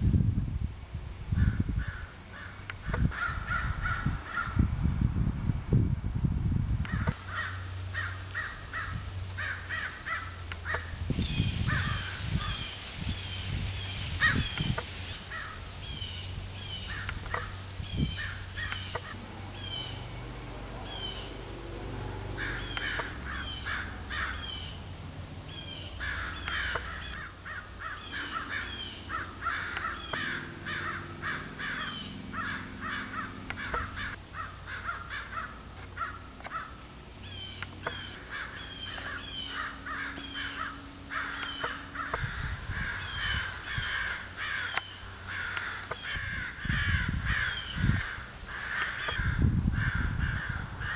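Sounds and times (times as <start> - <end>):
crows cawing: 1.4 - 4.6, 6.9 - 10.9, 11.7 - 12.6, 14.2 - 14.5, 15.3 - 15.6, 16.8 - 21.5, 22.3 - 24.9, 25.5 - 50.9.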